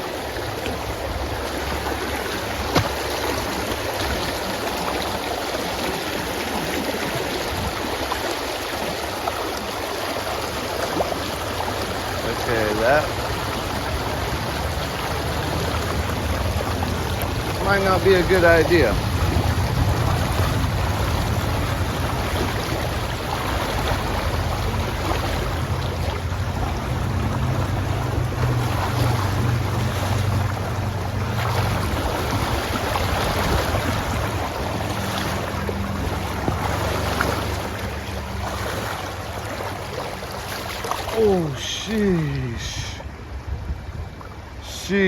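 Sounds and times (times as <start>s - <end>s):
river current rushing: 0.0s - 45.0s.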